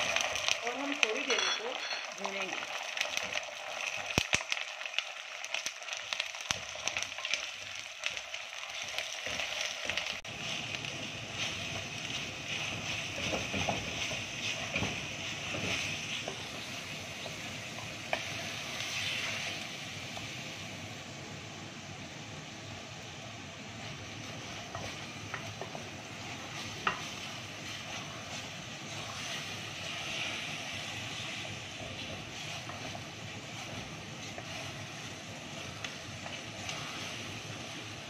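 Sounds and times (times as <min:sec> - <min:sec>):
meat sizzling in hot oil: 0:00.0 - 0:38.0.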